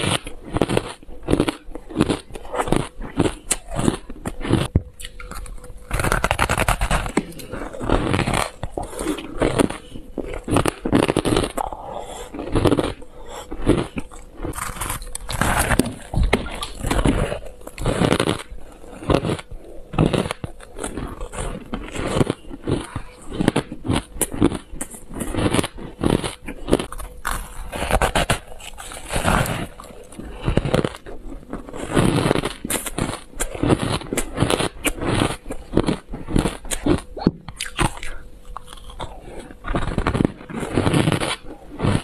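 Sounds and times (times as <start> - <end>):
chewing crunchy ice: 0.0 - 42.0.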